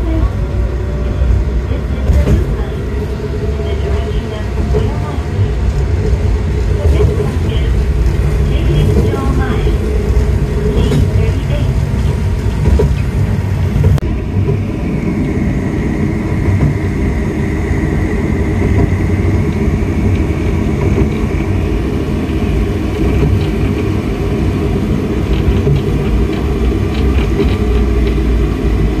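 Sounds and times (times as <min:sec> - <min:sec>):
tram rumbling on track: 0:00.0 - 0:29.0.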